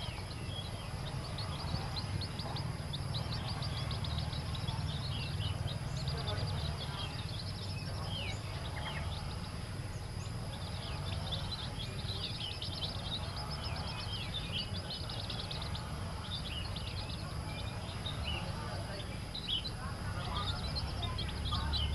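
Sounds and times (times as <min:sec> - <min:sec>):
chicks peeping: 0:00.0 - 0:21.9.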